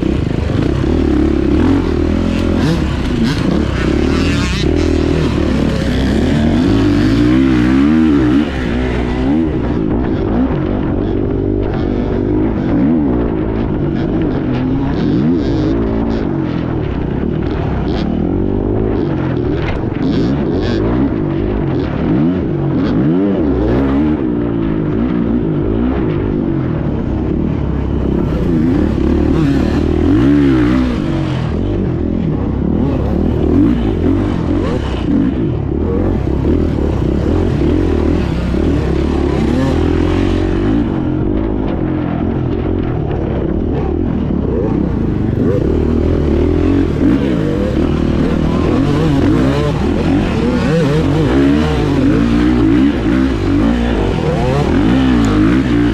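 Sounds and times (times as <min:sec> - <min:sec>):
motorcycle engine revving off-road: 0:00.0 - 0:55.9.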